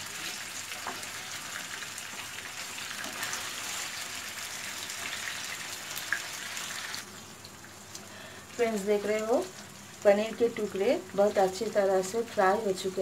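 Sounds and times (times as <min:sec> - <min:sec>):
paneer sizzling in oil: 0:00.0 - 0:13.0.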